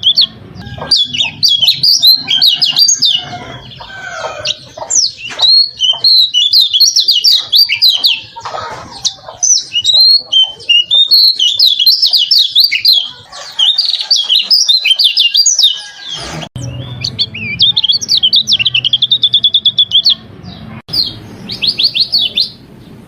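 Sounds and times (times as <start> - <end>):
harsh rasping bird notes: 0.0 - 20.0
bird singing high chirps and trills: 0.0 - 23.0.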